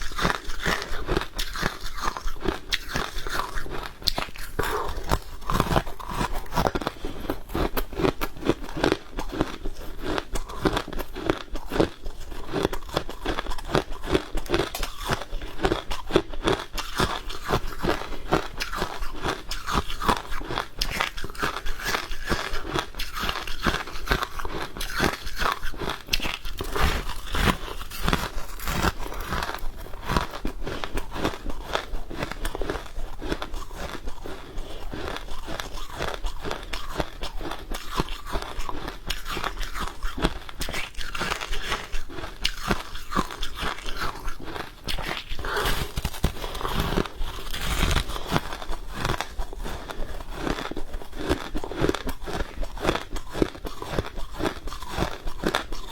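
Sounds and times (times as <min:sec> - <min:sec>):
crunching and chewing frost: 0:00.0 - 0:55.9.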